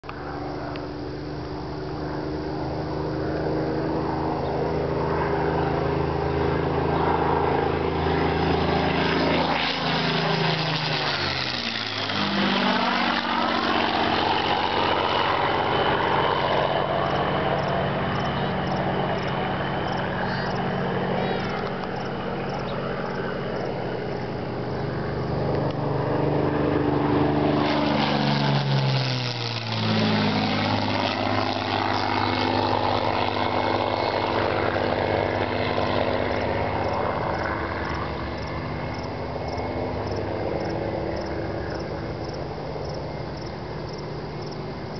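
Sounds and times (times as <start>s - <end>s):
propeller aircraft engine flyby: 0.0s - 44.9s.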